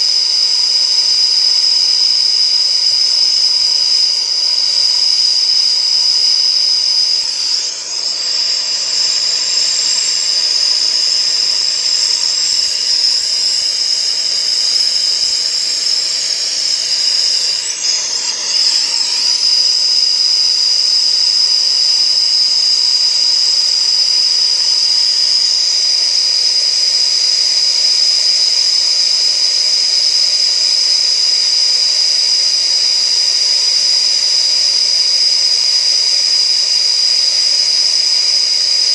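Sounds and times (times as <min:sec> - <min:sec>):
torch flame hissing with whistle: 0:00.0 - 0:38.9.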